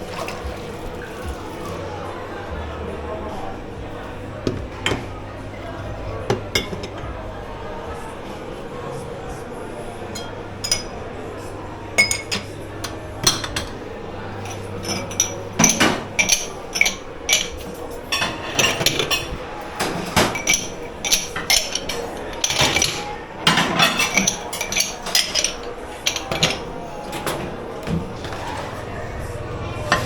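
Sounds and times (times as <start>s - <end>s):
dishes and cutlery clattering: 3.1s - 30.0s.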